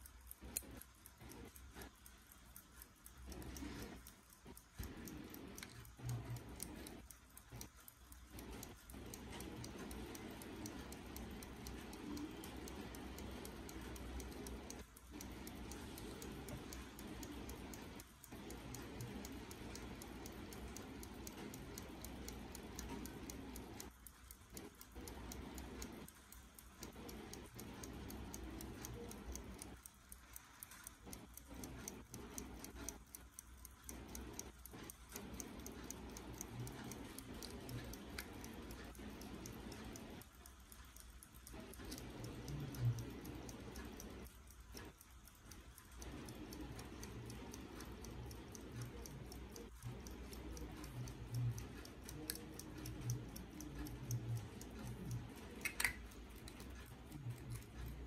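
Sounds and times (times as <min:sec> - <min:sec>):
pocket watch ticking: 0:00.0 - 0:58.0.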